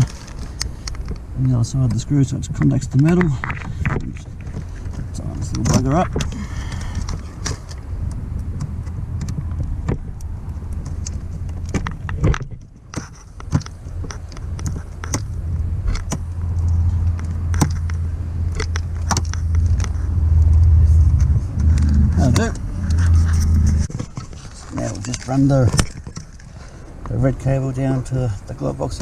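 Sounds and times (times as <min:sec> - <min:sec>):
steady low hum: 0:00.0 - 0:27.1
clicks and rattles of wiring: 0:00.0 - 0:27.2.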